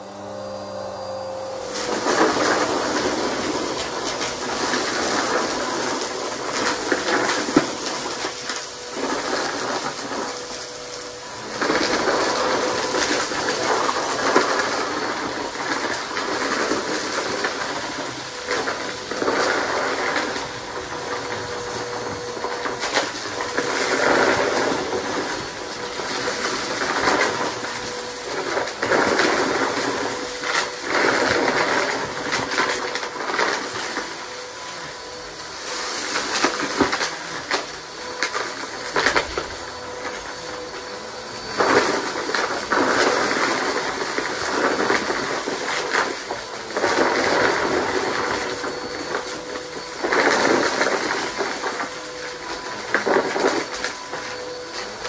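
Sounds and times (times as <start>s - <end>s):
upright vacuum cleaner running: 0.0s - 55.0s
debris rattling up nozzle: 1.6s - 55.0s.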